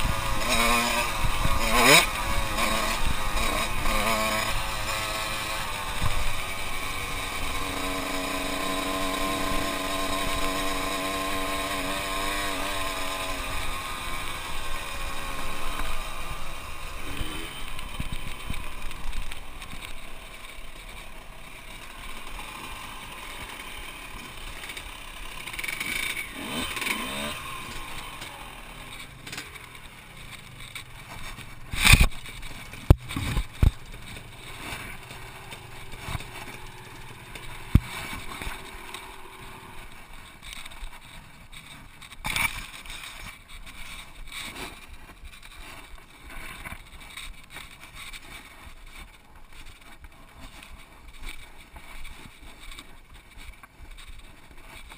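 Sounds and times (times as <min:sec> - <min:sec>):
distant dirt bike engines: 0:00.0 - 0:54.9.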